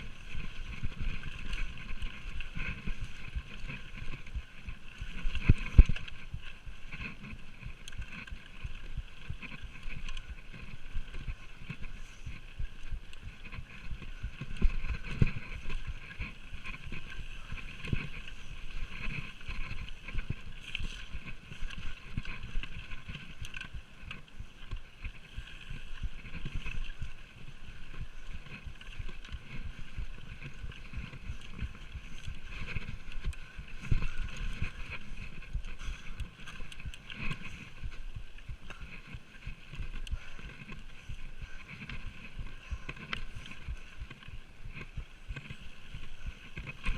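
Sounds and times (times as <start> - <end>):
mountain bike rattling and knocking: 0.0 - 46.9.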